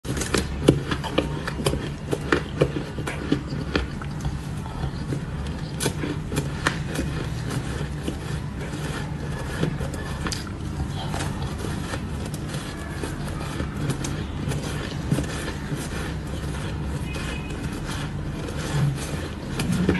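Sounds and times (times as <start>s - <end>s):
ice being chewed and crunched: 0.0s - 19.9s
low background hum: 0.0s - 19.9s.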